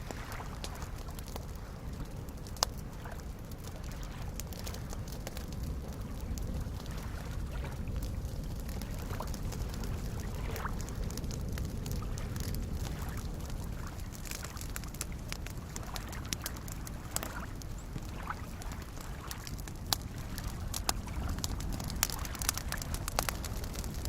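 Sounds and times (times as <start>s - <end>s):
campfire crackling and popping: 0.0s - 24.0s
lake waves lapping: 0.0s - 24.0s.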